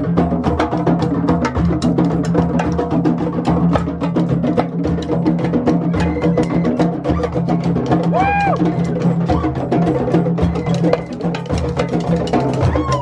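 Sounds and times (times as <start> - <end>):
hand drums playing fast rhythm: 0.0 - 13.0.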